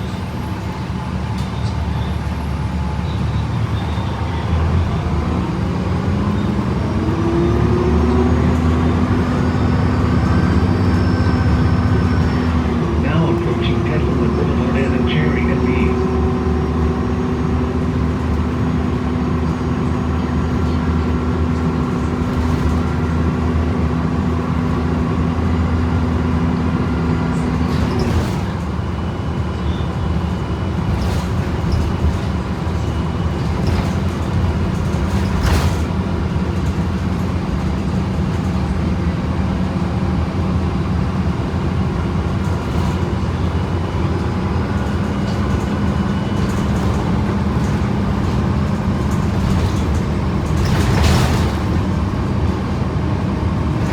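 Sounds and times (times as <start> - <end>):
bus engine hum with whine: 0.0 - 53.9.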